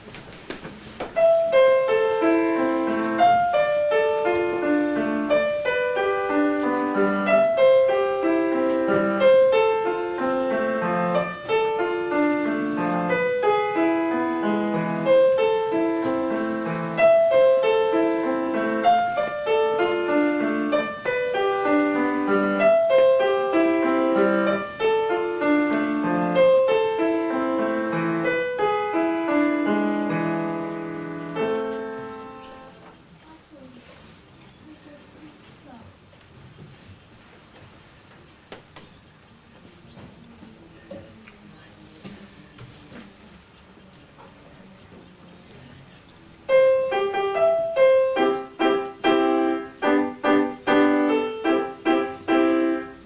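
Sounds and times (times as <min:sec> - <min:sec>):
grand piano notes: 0:00.0 - 0:36.1, 0:38.6 - 0:53.0.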